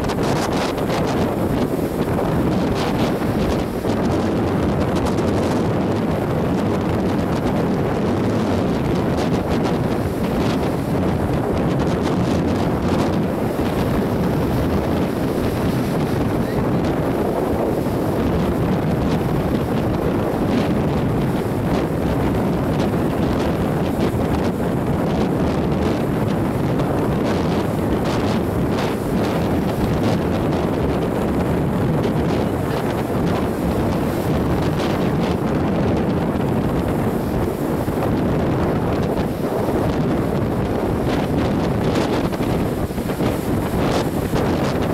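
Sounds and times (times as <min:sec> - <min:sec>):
surf breaking on shore: 0:00.0 - 0:44.9
wind buffeting microphone: 0:00.0 - 0:44.9.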